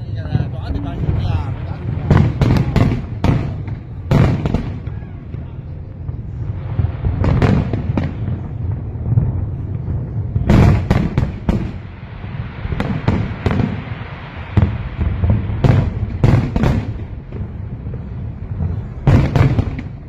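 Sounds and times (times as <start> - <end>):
continuous low rumble: 0.0 - 20.0
fireworks bursting: 0.0 - 20.0.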